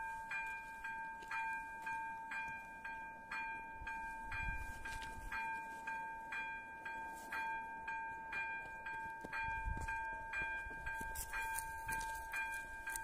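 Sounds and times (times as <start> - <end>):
level crossing bell ringing: 0.0 - 13.0.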